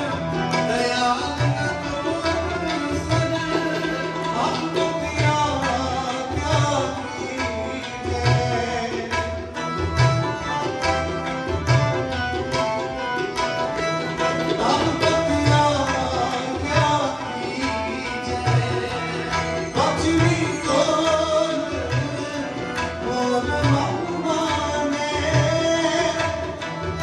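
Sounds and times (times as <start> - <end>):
harmonium chords: 0.0 - 27.0
tabla playing: 0.0 - 27.0.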